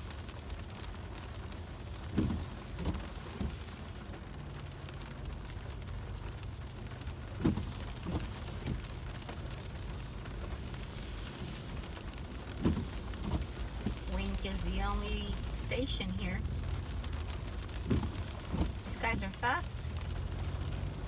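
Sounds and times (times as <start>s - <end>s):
rain drumming on car roof: 0.0s - 21.0s.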